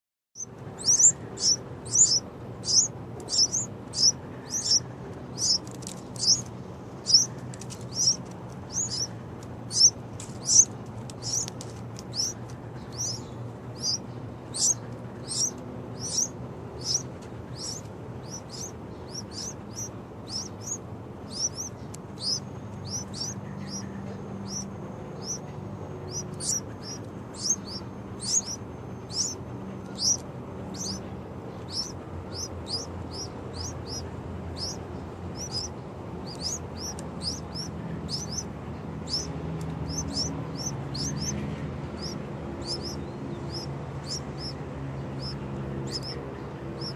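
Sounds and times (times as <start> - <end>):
birds chirping: 0.4 - 46.9.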